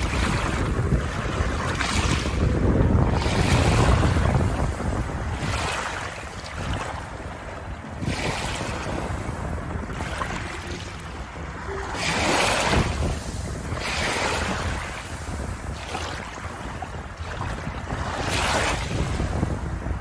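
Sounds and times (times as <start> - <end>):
rushing water: 0.0 - 20.0
waves washing in: 0.0 - 20.0.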